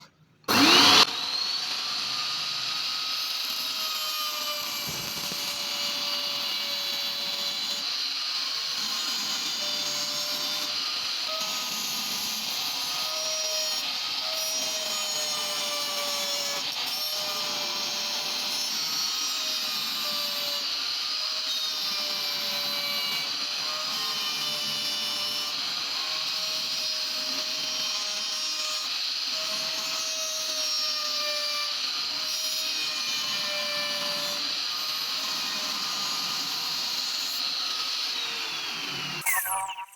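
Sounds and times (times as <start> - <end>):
wood router cutting wood: 0.5 - 39.2.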